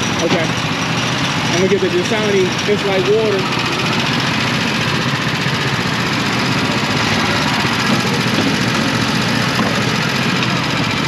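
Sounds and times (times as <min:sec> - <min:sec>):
go-kart engines idling: 0:00.0 - 0:11.0.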